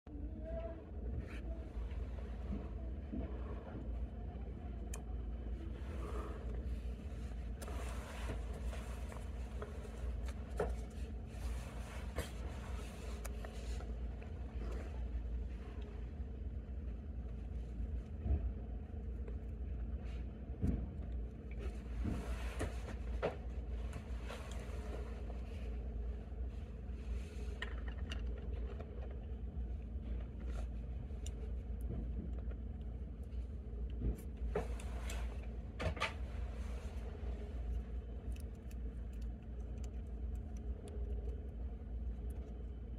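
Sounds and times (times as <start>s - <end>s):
steady low rumble: 0.1s - 42.9s
small clicks and rustles: 6.5s - 42.9s.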